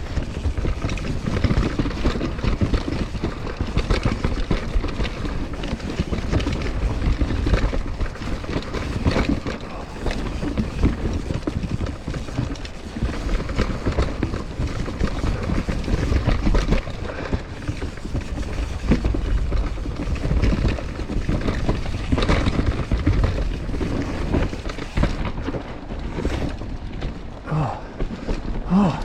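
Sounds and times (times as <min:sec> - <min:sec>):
bike rattling: 0:00.0 - 0:29.0
tyres rolling over dirt and rocks: 0:00.0 - 0:29.0.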